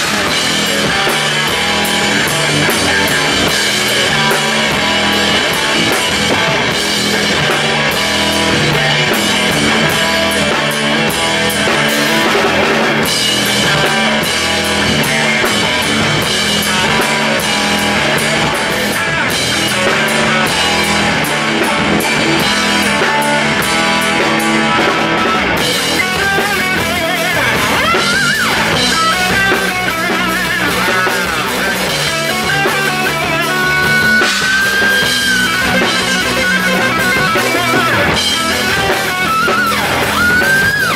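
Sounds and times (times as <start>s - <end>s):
drum kit: 0.0s - 40.9s
electric guitar: 0.0s - 40.9s.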